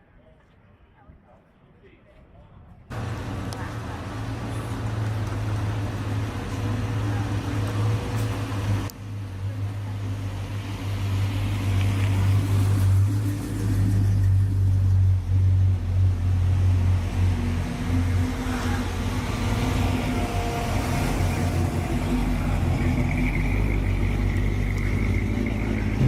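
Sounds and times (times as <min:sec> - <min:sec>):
car engines low rumble: 0:02.9 - 0:26.0.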